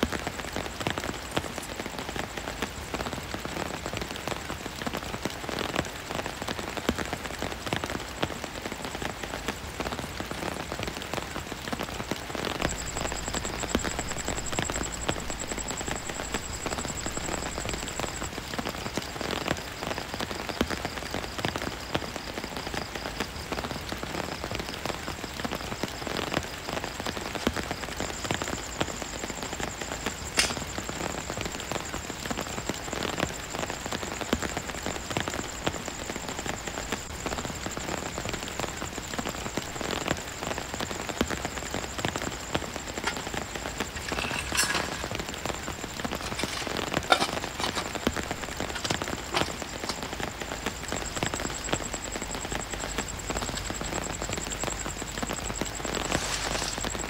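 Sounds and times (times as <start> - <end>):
heavy rain on tent fabric: 0.0 - 57.0.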